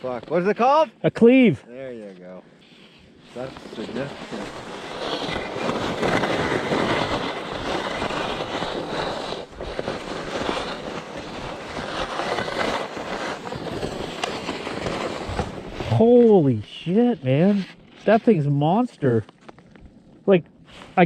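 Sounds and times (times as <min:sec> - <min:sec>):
skis scraping over hard snow: 0:00.0 - 0:00.6, 0:02.6 - 0:19.2.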